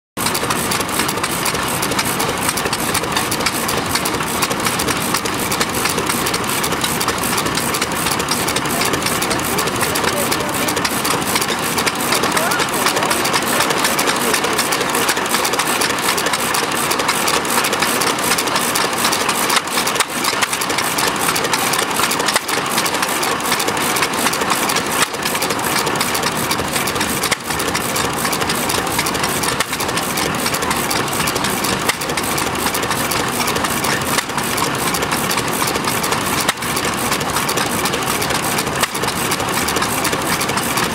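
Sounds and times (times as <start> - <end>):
stationary engine running: 0.2 - 40.9.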